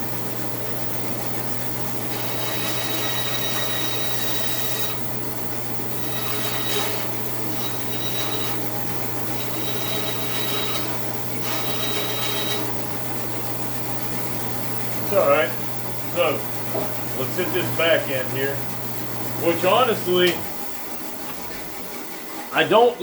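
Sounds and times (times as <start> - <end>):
bandsaw motor hum: 0.0 - 23.0.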